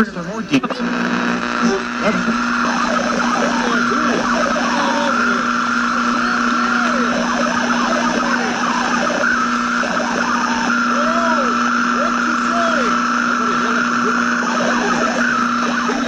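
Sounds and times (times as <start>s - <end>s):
high whine: 0.0s - 16.0s
low hum: 0.0s - 16.0s
radio static hiss: 0.0s - 16.0s
warbling radio whistles: 0.0s - 16.0s.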